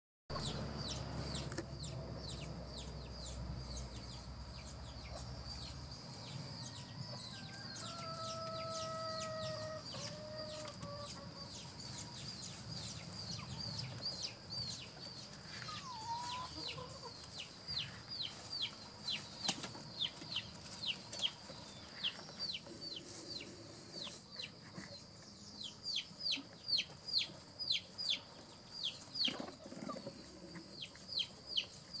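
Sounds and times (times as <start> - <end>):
birds peeping: 0.3 - 32.0.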